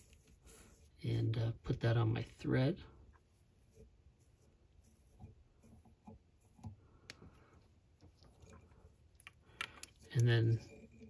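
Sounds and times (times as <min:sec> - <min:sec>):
faint fingers rustling thread: 0:00.0 - 0:11.0.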